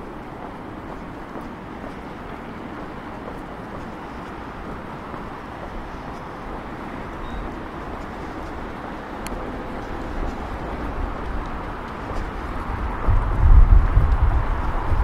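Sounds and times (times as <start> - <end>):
traffic noise: 0.0 - 15.0
vehicle low rumble: 0.0 - 15.0.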